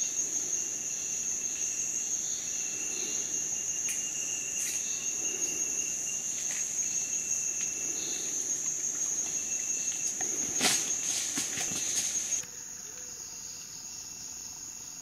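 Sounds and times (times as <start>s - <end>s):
faint insect tone: 0.0s - 15.0s
insect chorus drone: 0.0s - 15.0s.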